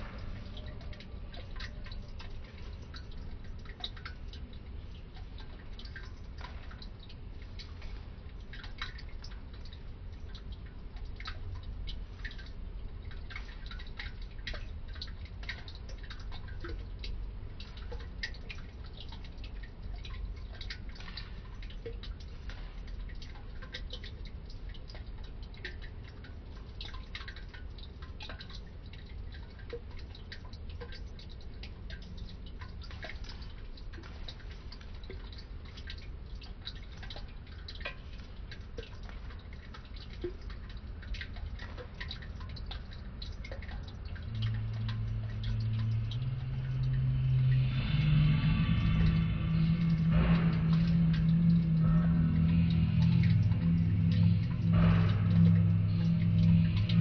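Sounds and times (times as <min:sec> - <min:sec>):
light irregular clicks and crackles: 0:00.0 - 0:57.0
steady low rumble: 0:00.0 - 0:57.0.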